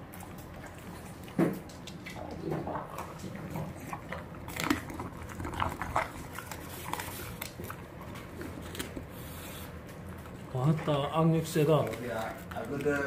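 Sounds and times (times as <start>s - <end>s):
dog chewing raw chicken: 0.0s - 13.0s.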